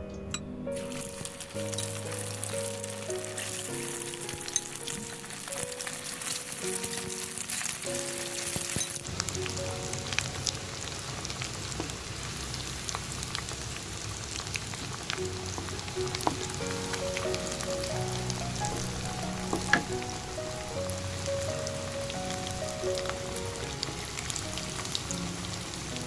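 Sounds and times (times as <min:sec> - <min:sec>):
background music: 0:00.0 - 0:11.2, 0:15.2 - 0:26.0
fritters frying in hot oil: 0:00.8 - 0:26.0
oil popping and crackling: 0:00.8 - 0:26.0.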